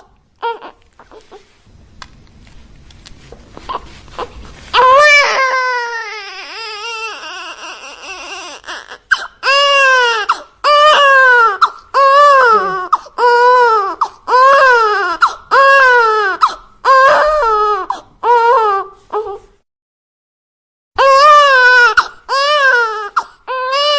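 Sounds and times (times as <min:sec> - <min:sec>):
infant crying: 0:00.0 - 0:01.4, 0:03.7 - 0:19.5, 0:21.0 - 0:23.9.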